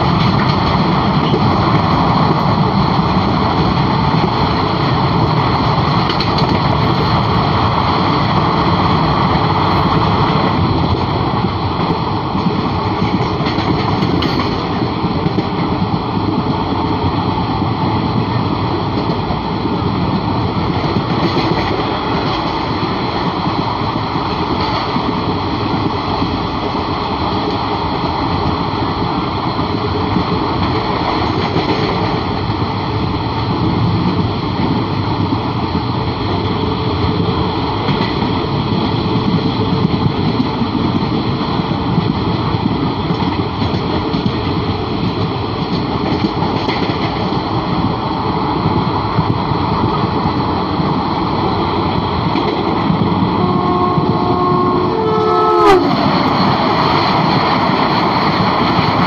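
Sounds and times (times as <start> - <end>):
rush of wind: 0.0 - 59.0
train wheels on rail: 0.0 - 59.0.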